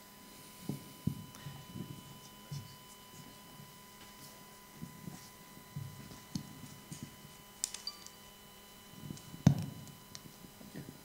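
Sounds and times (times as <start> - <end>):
faint electronic whine: 0.0 - 11.0.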